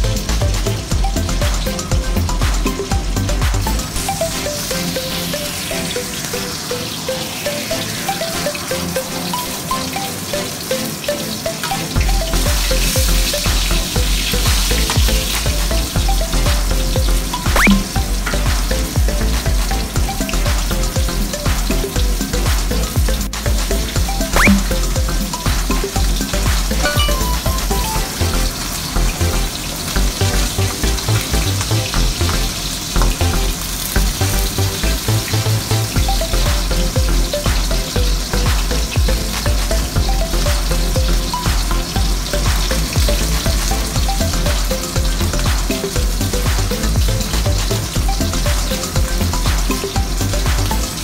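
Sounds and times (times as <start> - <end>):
background music with bass: 0.0 - 51.0
oil sizzling and spitting: 3.6 - 51.0.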